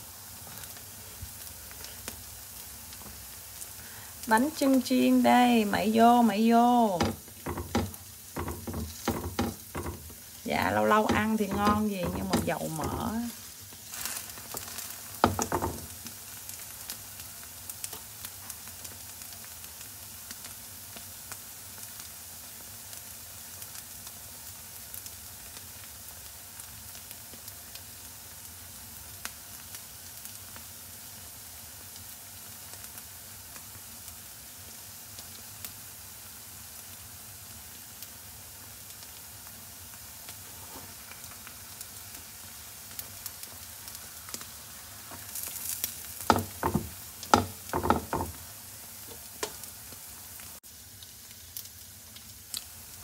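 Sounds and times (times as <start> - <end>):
oil sizzling in a pan: 0.0 - 53.0.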